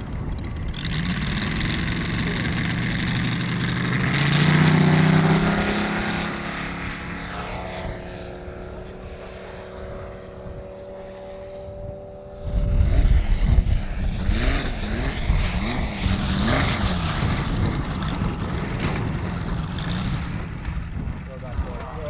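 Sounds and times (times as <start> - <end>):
model aircraft engine: 0.0 - 22.0.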